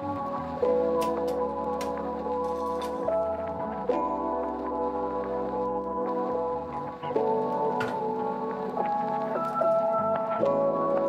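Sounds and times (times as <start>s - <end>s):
music of long held chords: 0.0s - 11.0s.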